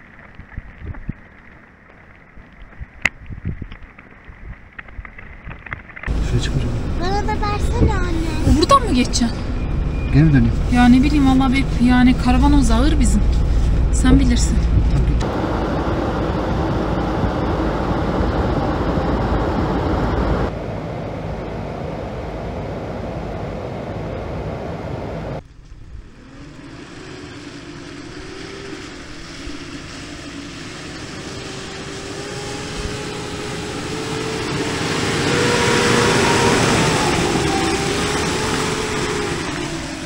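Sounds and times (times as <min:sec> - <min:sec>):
rushing noise inside truck cab: 0:06.0 - 0:40.0
truck engine revving: 0:06.1 - 0:40.0.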